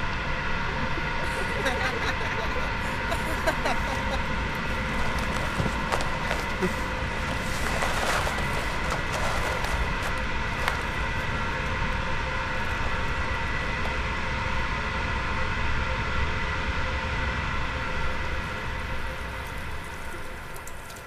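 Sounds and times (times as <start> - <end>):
droning rumble: 0.0 - 21.0
faint high hum: 0.0 - 21.0.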